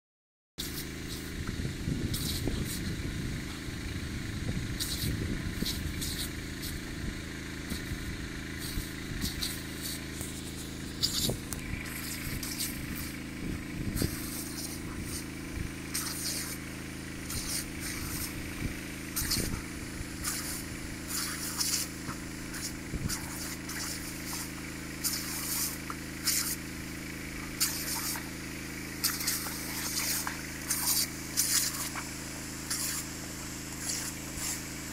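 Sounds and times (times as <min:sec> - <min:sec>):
water jet hissing and splashing: 0:00.6 - 0:03.7, 0:04.5 - 0:34.9
engine drone: 0:00.6 - 0:34.9.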